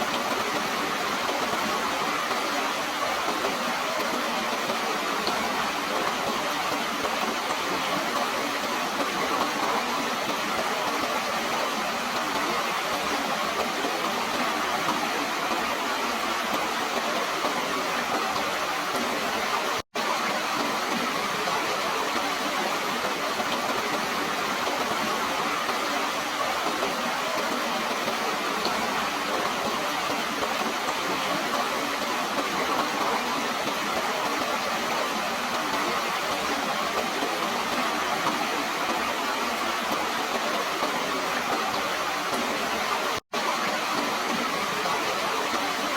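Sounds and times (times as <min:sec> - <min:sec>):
water rushing: 0:00.0 - 0:45.9.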